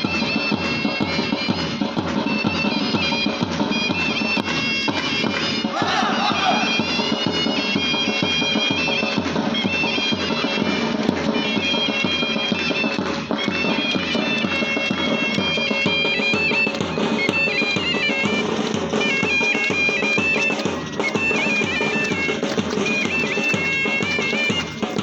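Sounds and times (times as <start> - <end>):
bagpipe melody with drones: 0.0 - 25.0
regular drumbeat: 0.1 - 25.0.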